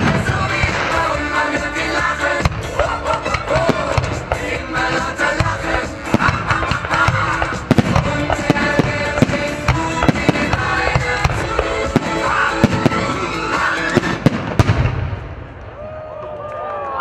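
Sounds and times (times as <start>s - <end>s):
loud music: 0.0s - 14.9s
fireworks bangs and crackles: 0.0s - 16.0s.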